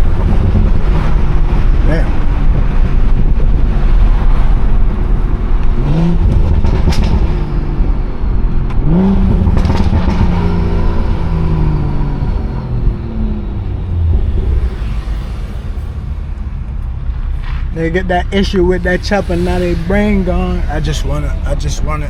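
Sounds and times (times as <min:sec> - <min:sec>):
car engine accelerating: 0:00.0 - 0:22.0
exhaust cracks: 0:00.0 - 0:22.0.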